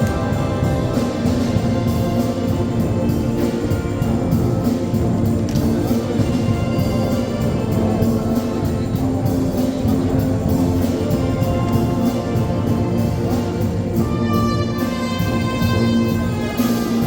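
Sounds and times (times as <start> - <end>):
brass and wind band playing: 0.0 - 17.0.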